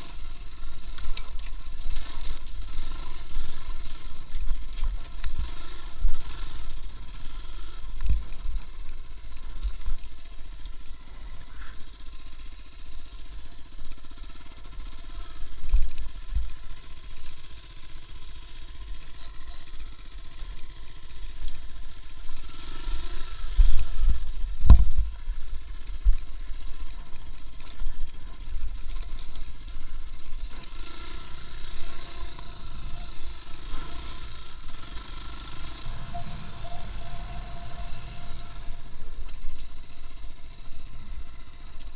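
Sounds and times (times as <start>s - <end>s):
vehicle low rumble: 0.0s - 41.9s.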